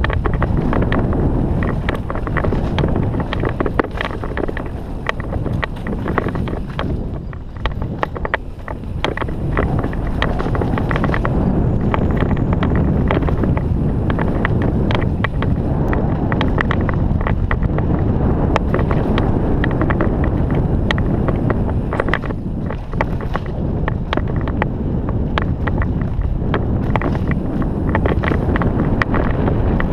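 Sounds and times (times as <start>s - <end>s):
bike clicks and rattles: 0.0s - 29.9s
tyres on rough dirt: 0.0s - 29.9s
wind buffeting microphone: 0.0s - 29.9s.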